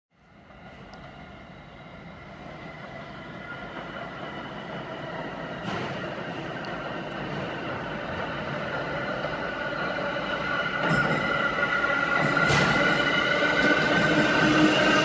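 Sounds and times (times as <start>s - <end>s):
subway train rail noise: 0.2s - 15.0s.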